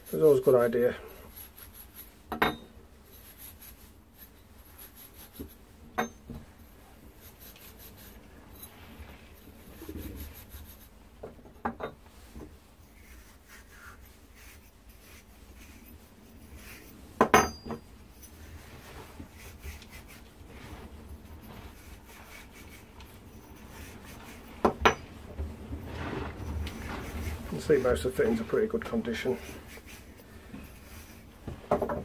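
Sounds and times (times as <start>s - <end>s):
wire wool rubbing copper pipe: 0.0s - 2.3s, 6.6s - 11.0s, 12.1s - 31.9s.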